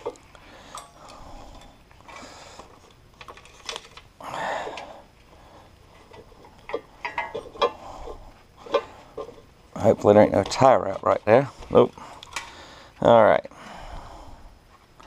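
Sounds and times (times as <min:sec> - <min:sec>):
wire and connector rustling: 0:00.0 - 0:12.6.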